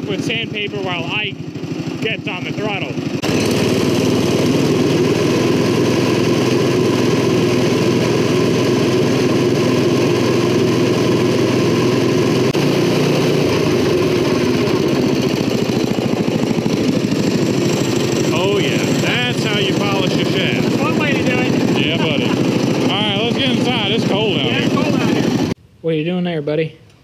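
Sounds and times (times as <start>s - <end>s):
small engine running steadily: 0.0s - 25.6s.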